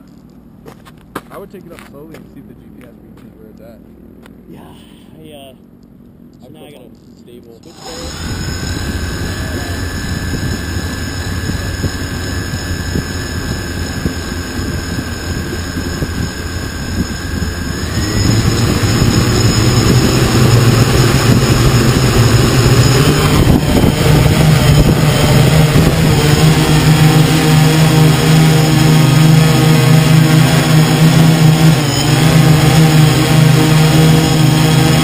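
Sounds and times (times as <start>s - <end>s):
drone motors whining: 1.4s - 35.0s.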